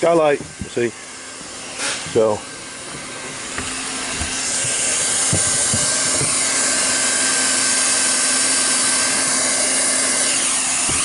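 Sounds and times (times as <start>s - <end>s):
hot air welding gun blowing: 0.0s - 11.0s.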